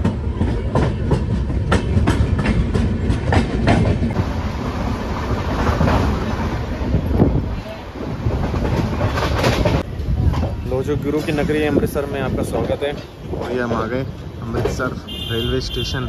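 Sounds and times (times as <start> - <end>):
train wheels clacking: 0.0 - 15.8
train rumble: 0.0 - 16.0.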